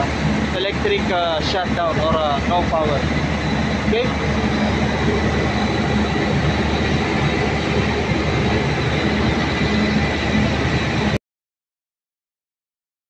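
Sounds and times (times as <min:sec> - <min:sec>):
machinery running: 0:00.0 - 0:11.2.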